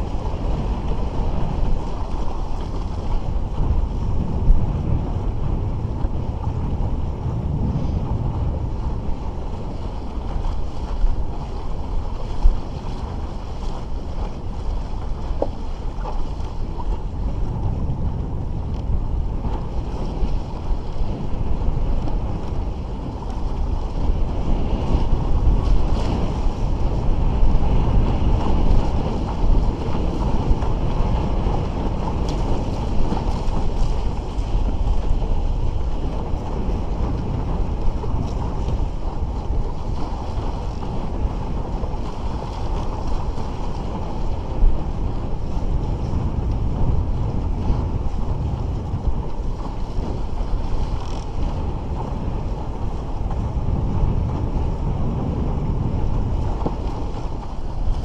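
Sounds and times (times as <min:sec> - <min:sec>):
water splashing against a hull: 0:00.0 - 0:58.0
wind buffeting the microphone: 0:00.0 - 0:58.0.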